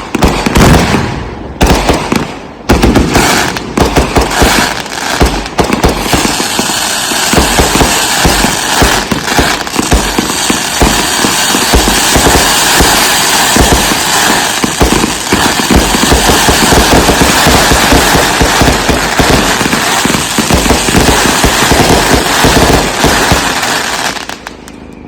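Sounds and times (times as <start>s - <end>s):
fireworks banging and crackling: 0.0s - 25.0s.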